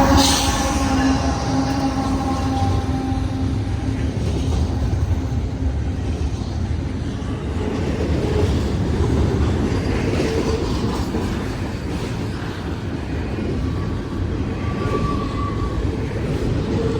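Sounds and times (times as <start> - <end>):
train wheels clacking on rails: 0.0 - 16.9.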